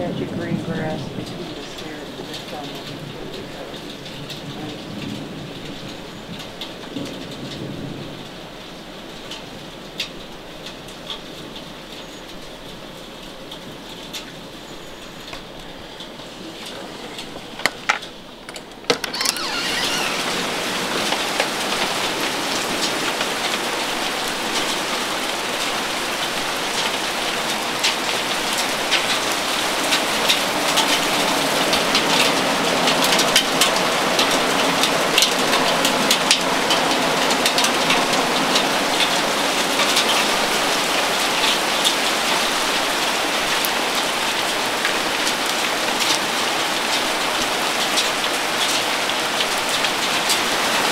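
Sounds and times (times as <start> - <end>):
heavy rain and hail falling: 0.0 - 50.9.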